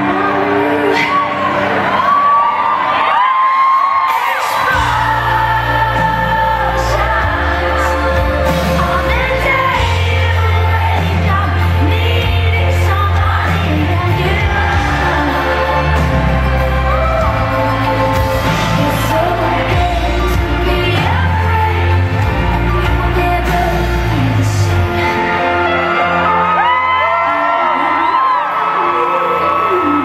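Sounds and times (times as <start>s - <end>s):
woman singing into microphone: 0.0s - 2.7s, 4.0s - 25.5s, 26.8s - 30.0s
band playing pop music: 0.0s - 30.0s.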